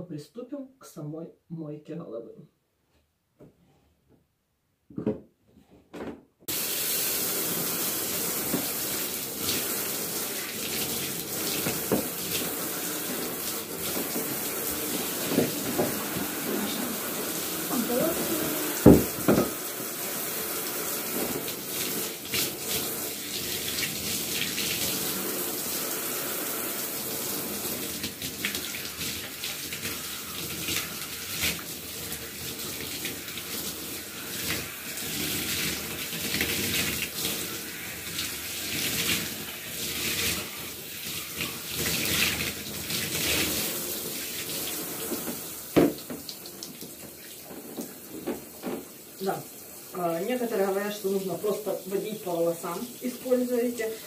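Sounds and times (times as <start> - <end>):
water running and splashing: 6.5 - 54.0.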